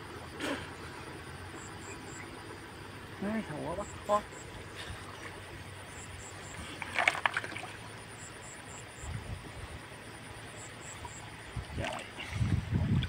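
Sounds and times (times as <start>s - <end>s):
water splashing and sloshing: 0.1s - 13.0s.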